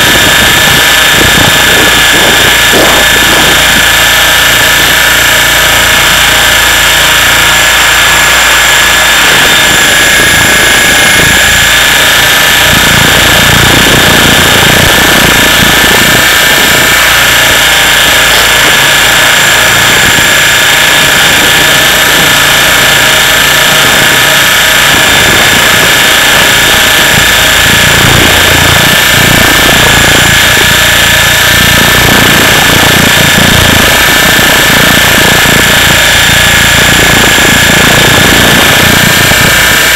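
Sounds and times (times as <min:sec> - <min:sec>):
helicopter motor whine: 0:00.0 - 0:39.9
rotor low rumble: 0:00.0 - 0:39.9.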